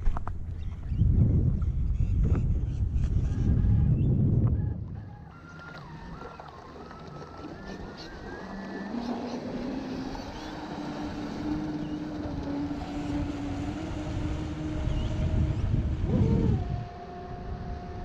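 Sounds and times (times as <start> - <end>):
wind buffeting microphone: 0.0 - 18.0
electric motor whining: 3.1 - 18.0.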